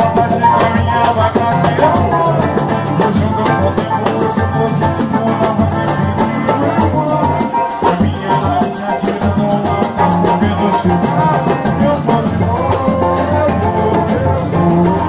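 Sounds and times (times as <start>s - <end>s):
band playing instrumental: 0.0s - 15.0s
drums and hand percussion: 0.0s - 15.0s.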